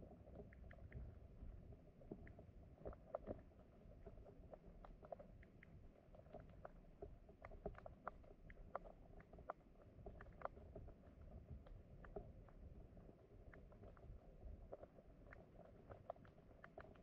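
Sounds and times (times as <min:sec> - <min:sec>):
faint underwater clicks: 0:00.0 - 0:17.0
low rumble of flowing water: 0:00.0 - 0:17.0.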